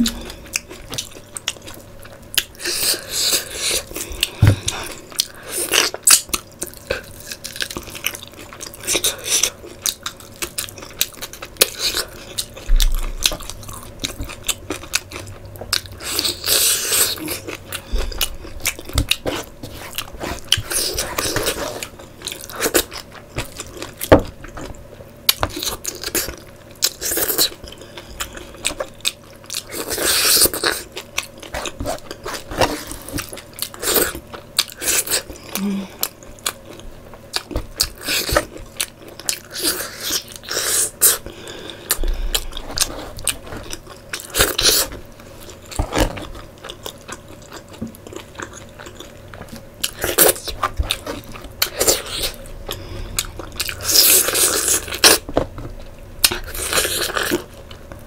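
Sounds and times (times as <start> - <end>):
person chewing with mouth clicks: 0.0 - 24.7, 25.3 - 58.0.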